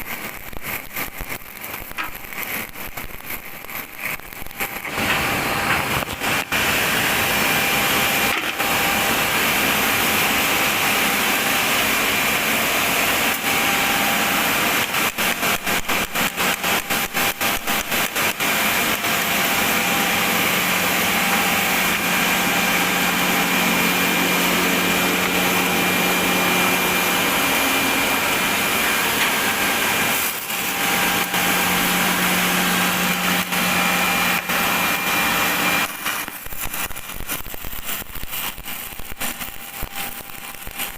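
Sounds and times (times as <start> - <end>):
welding arc hissing and crackling: 0.0 - 40.9.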